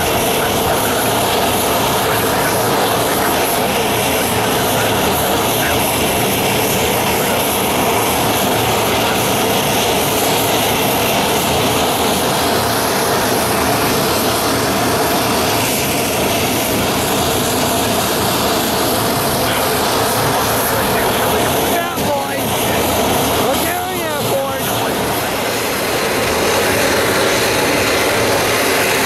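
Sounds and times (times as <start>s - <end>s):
jet engines idling: 0.0s - 29.0s.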